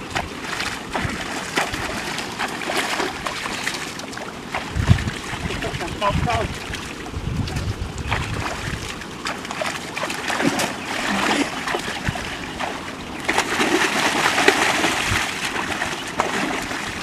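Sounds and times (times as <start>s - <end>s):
muddy water splashing: 0.0s - 17.0s.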